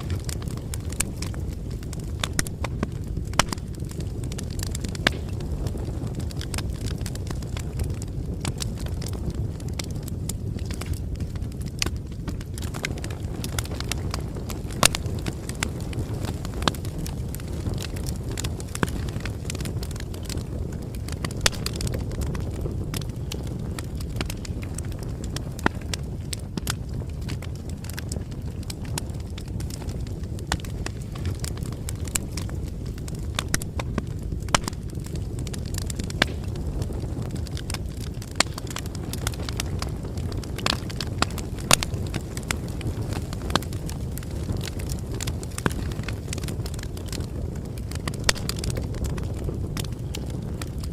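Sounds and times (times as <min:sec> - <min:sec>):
bonfire crackling: 0:00.0 - 0:50.9
low rumble of burning wood: 0:00.0 - 0:50.9.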